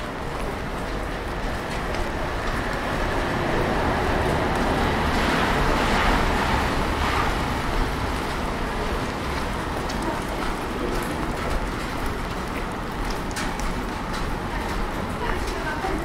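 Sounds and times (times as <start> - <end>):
car tyres hissing on wet street: 0.0 - 16.0
street noise: 0.0 - 16.0.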